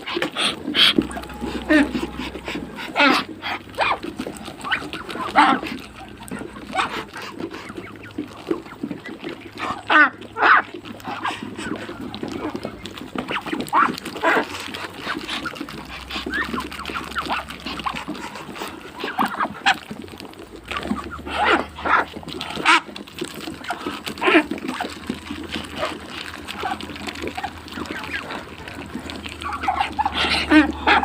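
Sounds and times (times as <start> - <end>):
ducks and poultry calling: 0.0 - 31.0.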